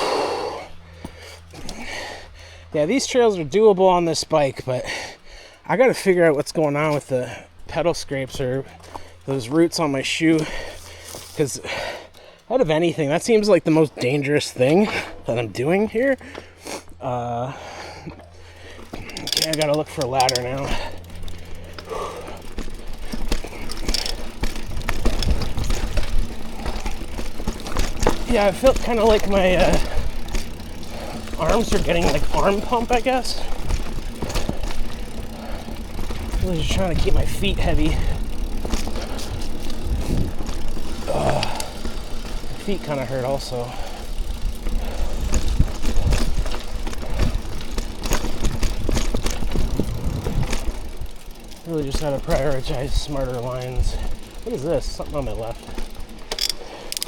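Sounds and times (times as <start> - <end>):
bike knocking and rattling: 0.6 - 57.0
tyres rumbling on dirt: 0.6 - 57.0.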